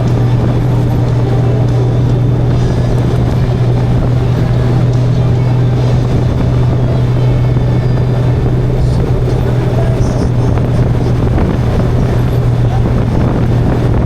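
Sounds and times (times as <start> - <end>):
motorcycle engine drone: 0.0 - 14.0
wind and road noise: 0.0 - 14.0.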